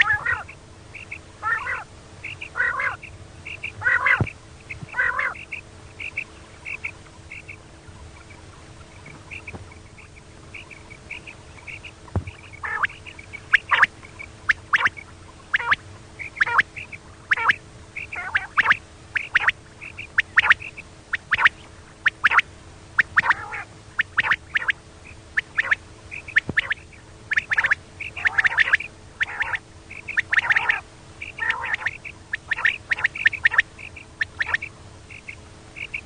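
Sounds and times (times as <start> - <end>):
faint steady hum: 0.0 - 36.0
quail calling: 0.0 - 36.0.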